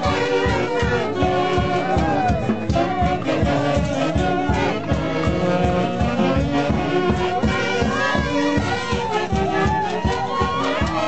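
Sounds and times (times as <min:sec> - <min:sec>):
live band playing dance tune: 0:00.0 - 0:11.0.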